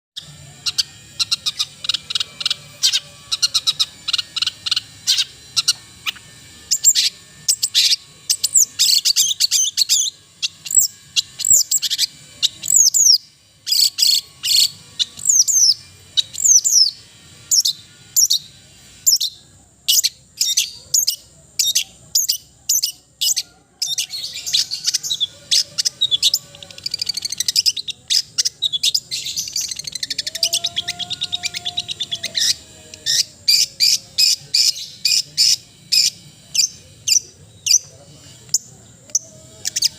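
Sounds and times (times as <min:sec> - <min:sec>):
shrike singing: 0:00.2 - 0:39.9.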